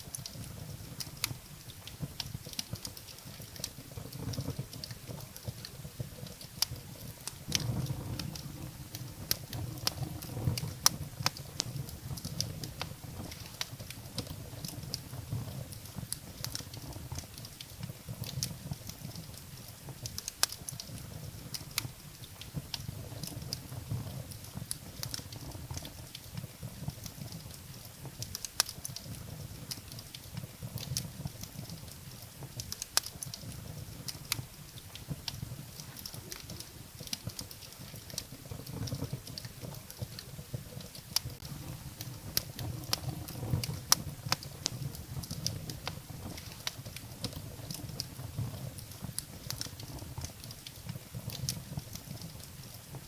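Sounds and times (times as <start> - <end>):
firewood crackling and popping: 0.0 - 53.0
low rumble of flame: 0.0 - 53.0.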